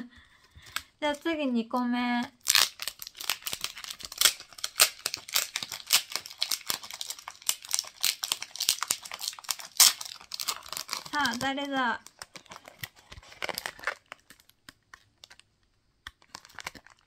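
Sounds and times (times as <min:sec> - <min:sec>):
plastic wrapping crackling and tearing: 0:00.3 - 0:17.0.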